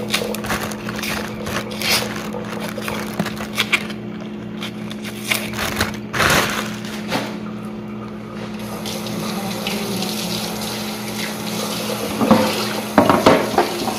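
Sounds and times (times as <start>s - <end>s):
low machine hum: 0.0s - 13.9s.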